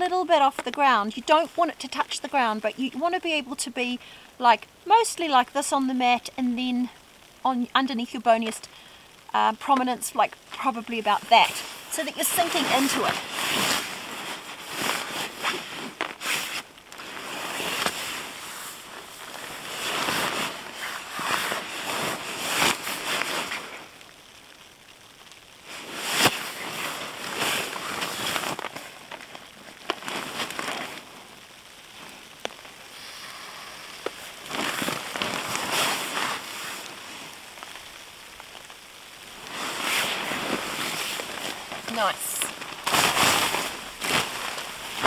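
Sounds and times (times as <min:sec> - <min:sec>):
nylon fabric crinkling: 0:08.1 - 0:45.0.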